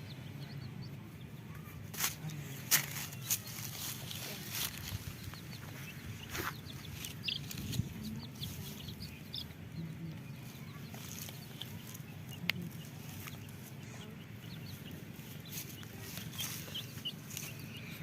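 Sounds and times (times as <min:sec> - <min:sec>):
chicks cheeping: 0:00.0 - 0:18.0
hen clucking: 0:03.0 - 0:18.0.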